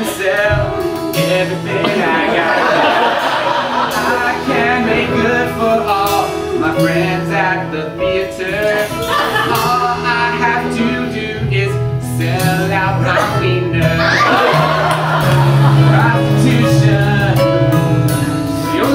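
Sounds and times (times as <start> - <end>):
instrumental accompaniment: 0.0 - 18.9
man singing: 0.0 - 18.9.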